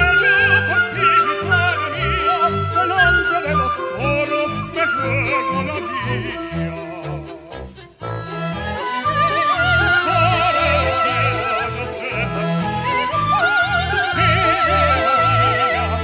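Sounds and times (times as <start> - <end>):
operatic duet singing: 0.0 - 16.0
small orchestra with flute and strings: 0.0 - 16.0.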